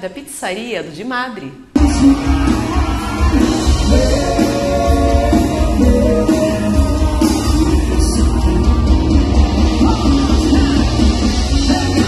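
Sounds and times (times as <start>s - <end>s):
loud rock music with heavy bass: 1.8s - 12.0s.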